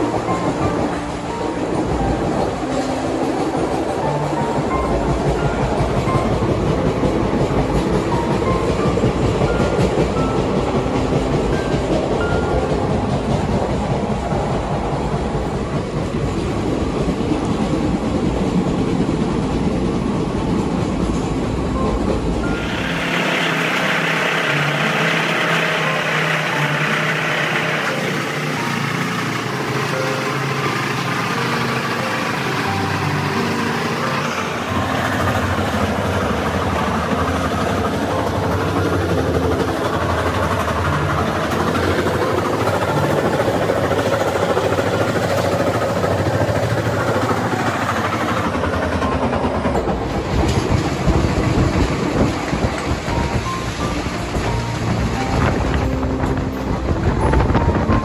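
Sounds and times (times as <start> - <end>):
passenger train running: 0.0 - 58.0.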